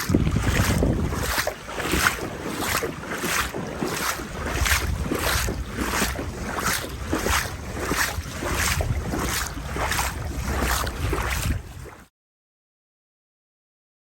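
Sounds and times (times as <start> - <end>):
wading through water splashing: 0.0 - 12.1
wind rumbling on microphone: 0.0 - 12.1.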